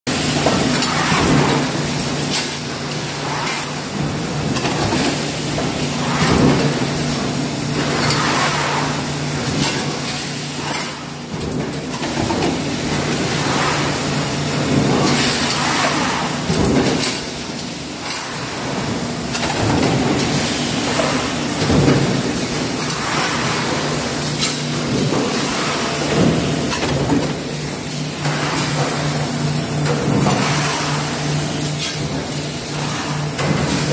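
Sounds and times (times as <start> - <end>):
steady machine hum: 0.1 - 33.9
press strokes and metal clatter: 0.3 - 33.9.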